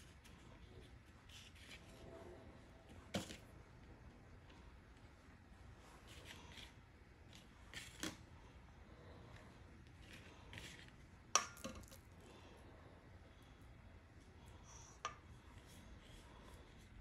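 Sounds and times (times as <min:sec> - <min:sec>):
hands rolling pasta dough: 0:00.0 - 0:17.0.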